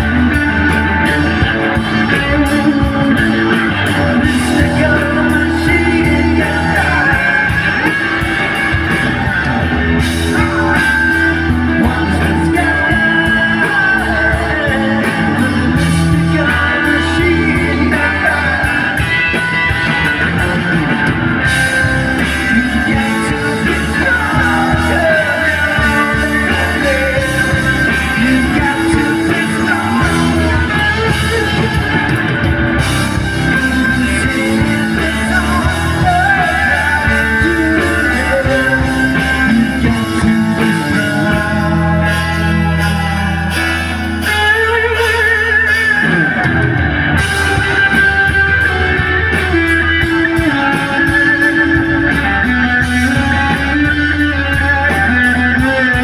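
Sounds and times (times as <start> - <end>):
electric guitar bending notes: 0.0 - 56.0
rock band playing live: 0.0 - 56.0.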